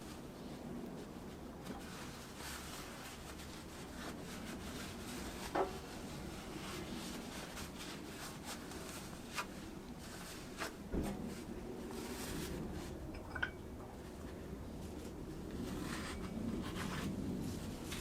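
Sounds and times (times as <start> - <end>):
rubbing and handling noise: 0.0 - 18.0.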